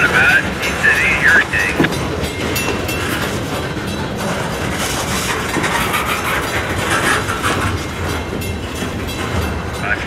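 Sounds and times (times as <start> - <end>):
train wheels rumbling on rails: 0.0 - 10.0
wheels clicking over track joints: 0.0 - 10.0.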